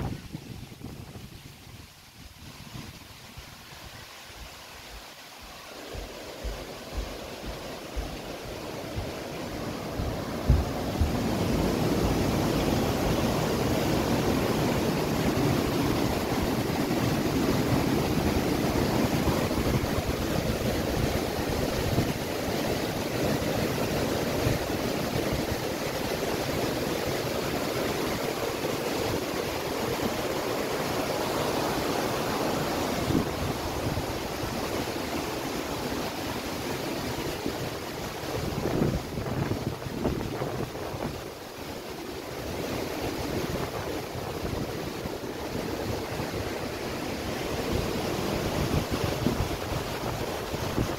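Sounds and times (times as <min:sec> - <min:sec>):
wind buffeting microphone: 0:00.0 - 0:30.9, 0:36.5 - 0:50.9
river flowing through weir: 0:00.0 - 0:50.9.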